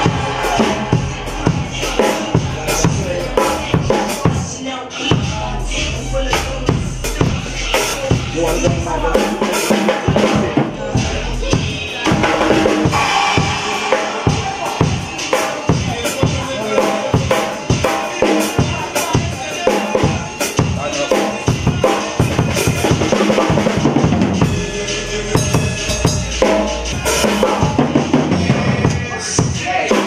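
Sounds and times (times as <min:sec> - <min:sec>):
drum kit playing: 0:00.0 - 0:30.0.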